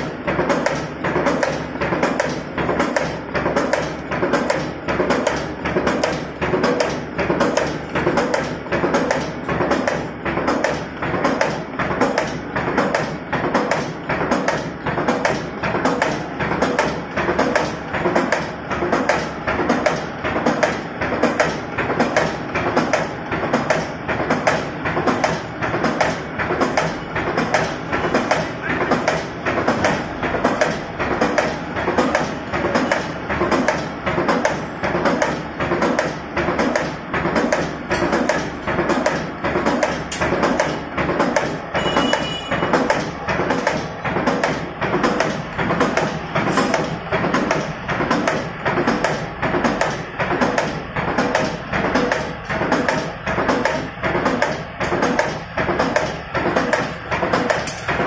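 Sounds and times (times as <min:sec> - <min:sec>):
machine clicks and metallic taps: 0:00.0 - 0:58.0.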